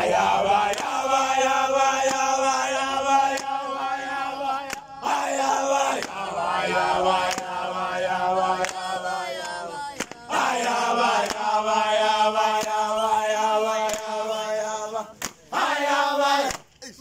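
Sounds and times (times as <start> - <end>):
young men singing a chant: 0.0 - 16.6.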